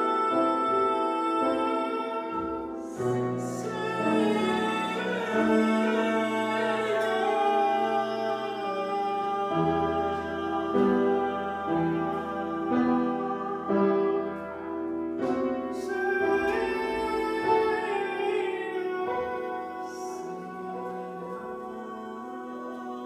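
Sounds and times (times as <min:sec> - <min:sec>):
sustained chordal accompaniment: 0:00.0 - 0:23.0
voices singing held notes: 0:00.0 - 0:23.0.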